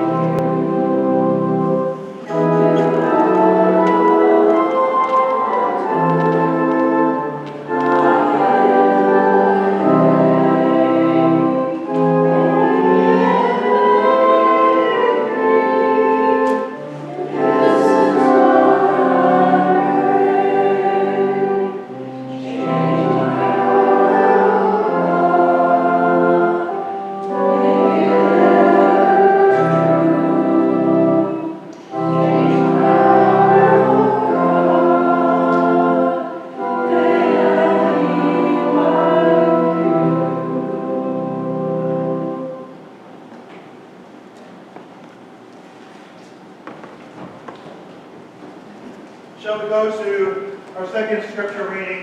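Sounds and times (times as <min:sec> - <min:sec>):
group singing a hymn: 0:00.0 - 0:42.8
organ: 0:00.0 - 0:52.0.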